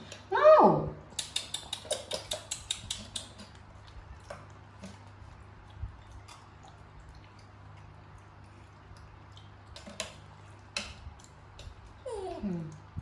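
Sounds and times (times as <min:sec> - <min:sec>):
faint clicks and taps: 0:01.1 - 0:13.0.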